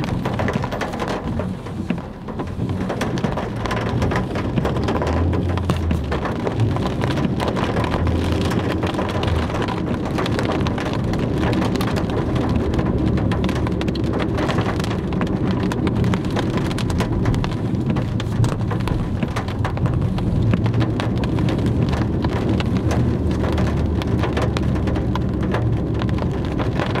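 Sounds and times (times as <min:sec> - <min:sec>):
rain on car roof: 0:00.0 - 0:27.0
tyres on wet road: 0:00.0 - 0:27.0.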